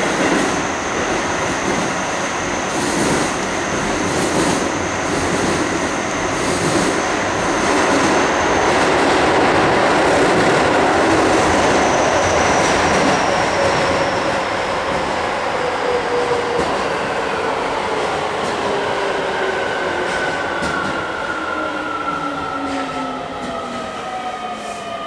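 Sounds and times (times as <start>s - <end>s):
train wheels rumbling in tunnel: 0.0s - 25.0s.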